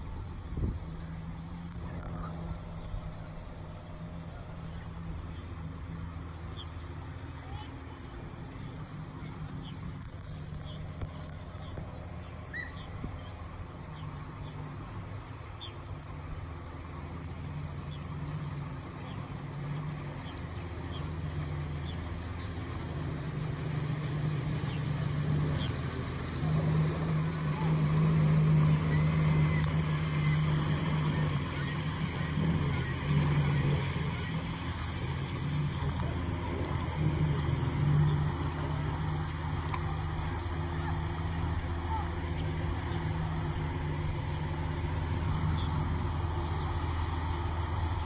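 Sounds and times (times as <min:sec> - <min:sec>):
tugboat diesel engines droning: 0:00.0 - 0:48.0.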